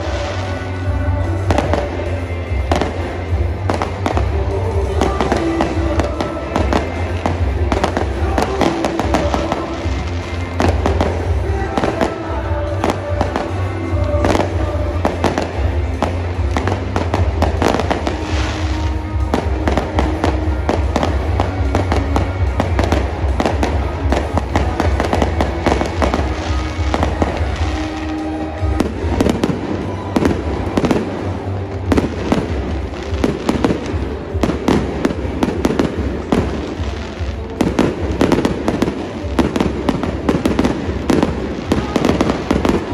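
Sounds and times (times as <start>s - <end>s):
fireworks bursting and crackling: 0.0s - 42.9s
music playing: 0.0s - 42.9s.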